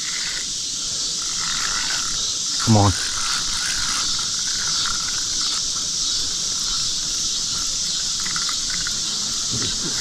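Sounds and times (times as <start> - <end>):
crickets and insects chirping: 0.0 - 10.0.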